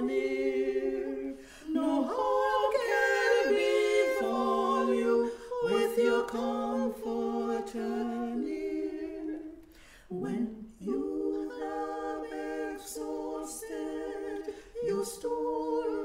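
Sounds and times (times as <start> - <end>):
women singing hymn in harmony: 0.0 - 16.0.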